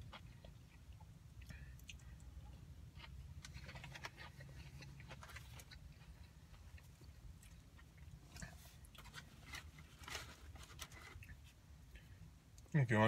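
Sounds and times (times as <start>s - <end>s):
person chewing: 0.0s - 12.6s
low steady hum: 0.0s - 13.0s.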